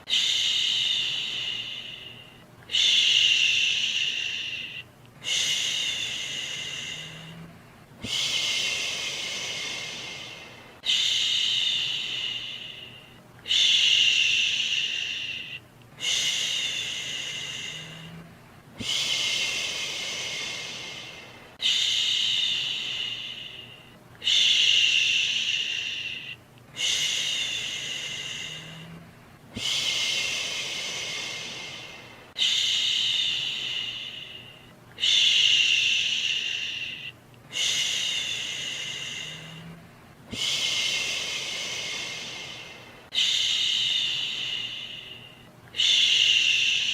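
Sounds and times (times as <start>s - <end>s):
faint white noise: 0.0s - 46.9s
person shushing: 0.0s - 46.9s.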